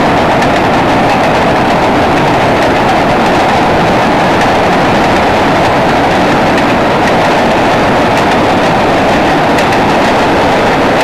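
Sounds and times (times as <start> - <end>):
train rumbling over bridge: 0.0 - 11.0
wheels clicking over rail joints: 0.0 - 11.0.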